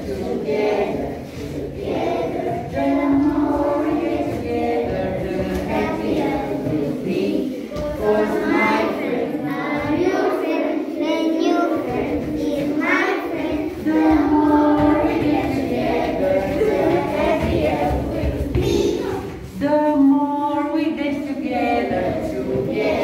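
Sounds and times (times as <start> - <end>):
children singing: 0.0 - 23.0.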